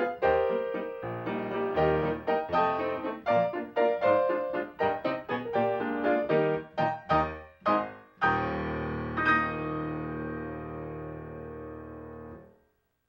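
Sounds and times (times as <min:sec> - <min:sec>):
piano chords: 0:00.0 - 0:12.6.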